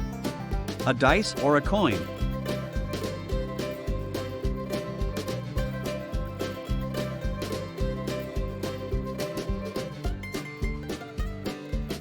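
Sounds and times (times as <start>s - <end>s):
upbeat music with plucked notes: 0.0s - 12.0s.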